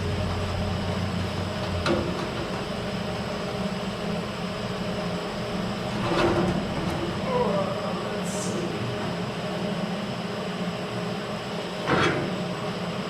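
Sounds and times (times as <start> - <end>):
fan rushing with low hum: 0.0 - 13.0.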